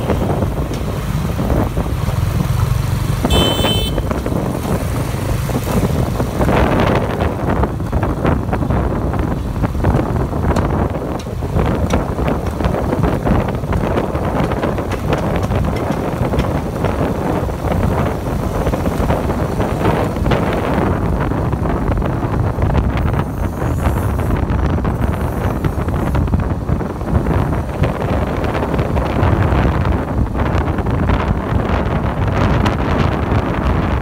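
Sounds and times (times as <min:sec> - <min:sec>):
scooter and road rumble: 0:00.0 - 0:34.0
wind buffeting microphone: 0:00.0 - 0:34.0.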